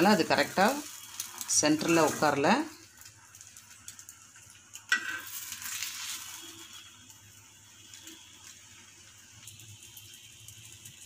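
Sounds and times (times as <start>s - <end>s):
egg bread sizzling on a pan: 0.0s - 11.0s.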